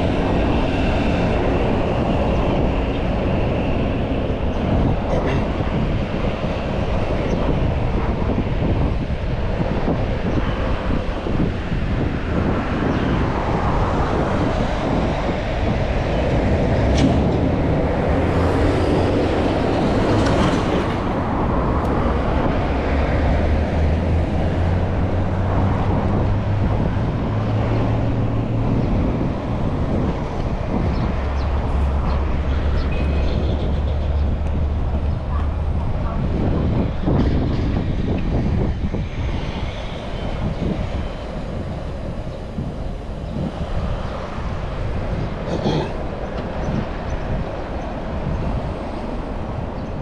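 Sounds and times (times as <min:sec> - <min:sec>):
bicycle tyre noise on road: 0:00.0 - 0:50.0
wind buffeting microphone: 0:00.0 - 0:50.0.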